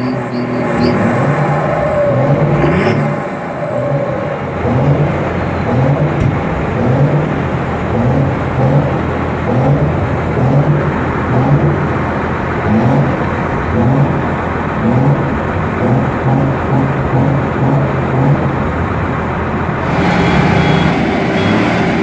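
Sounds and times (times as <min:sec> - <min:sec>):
engine throttle blips: 0:00.0 - 0:22.0
tractor engines revving: 0:00.0 - 0:22.0.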